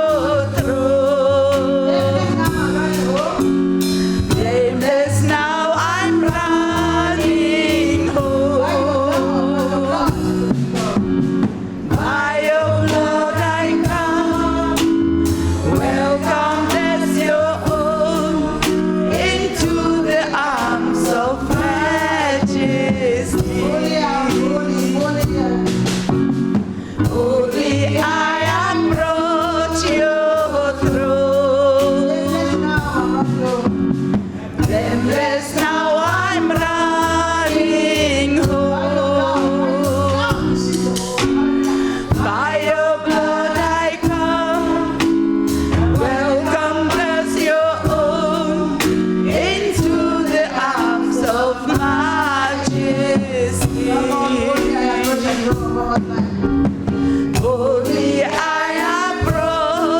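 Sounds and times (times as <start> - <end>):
bass: 0.0 - 59.9
keyboard: 0.0 - 59.9
person singing with vibrato: 0.0 - 59.9
steady drum beat: 0.0 - 59.9.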